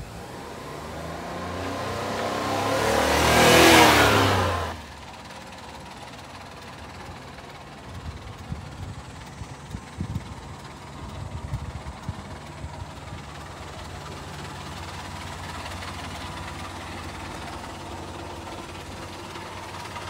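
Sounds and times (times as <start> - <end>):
small truck engine passing by: 0.0 - 20.0.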